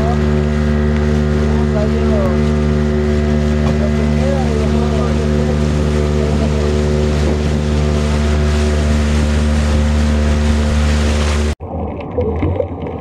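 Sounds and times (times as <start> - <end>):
motorboat engine droning: 0.0 - 11.6
water rushing: 0.0 - 13.0.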